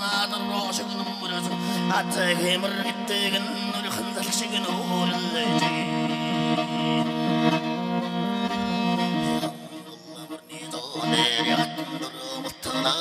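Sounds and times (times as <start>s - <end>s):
bowed fiddle melody: 0.0s - 13.0s.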